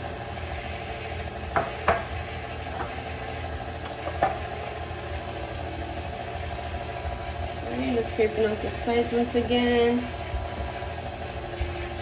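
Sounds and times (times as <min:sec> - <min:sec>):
stand mixer motor running: 0:00.0 - 0:12.0
whisk beating batter in steel bowl: 0:00.0 - 0:12.0.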